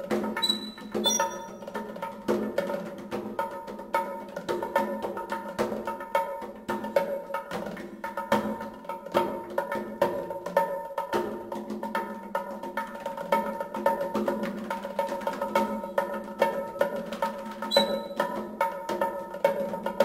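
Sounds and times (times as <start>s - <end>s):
percussive music: 0.0s - 20.0s.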